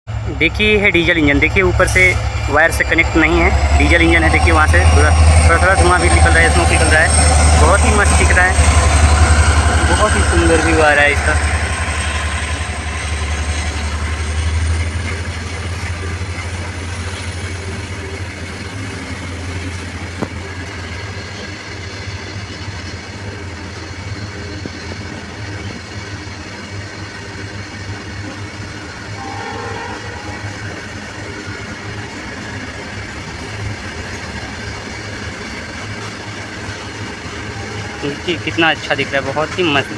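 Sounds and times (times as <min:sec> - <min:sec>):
diesel locomotive engine rumble: 0:00.1 - 0:39.9.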